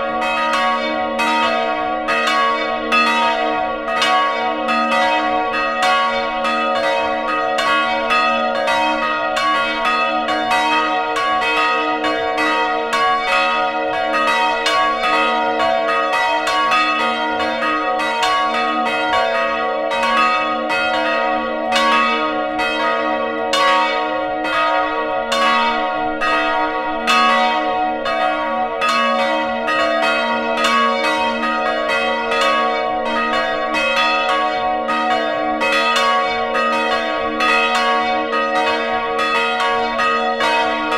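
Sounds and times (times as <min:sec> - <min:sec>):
church bells pealing: 0:00.0 - 0:40.9
hum of ringing bells: 0:00.0 - 0:40.9.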